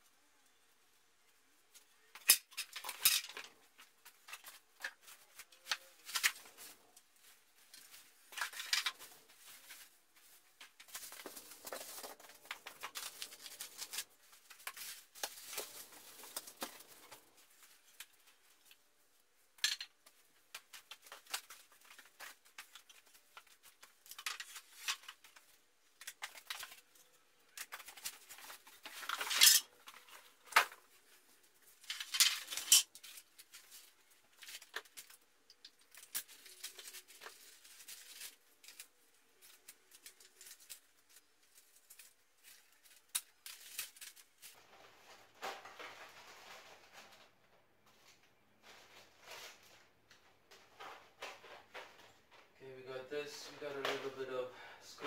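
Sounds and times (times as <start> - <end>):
foam wrapping rustling and tearing: 2.3 - 19.2, 20.3 - 47.3, 48.1 - 52.1.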